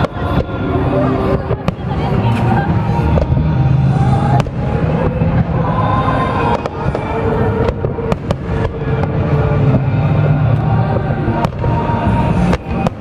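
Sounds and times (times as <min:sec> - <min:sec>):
fireworks booms rumbling: 0:00.0 - 0:13.0
music: 0:00.0 - 0:13.0
sharp fireworks bangs: 0:00.0 - 0:13.0.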